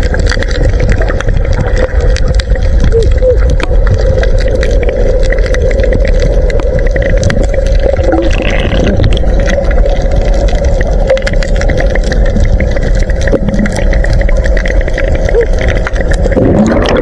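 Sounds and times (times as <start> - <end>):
underwater rumble and drone: 0.0 - 17.0.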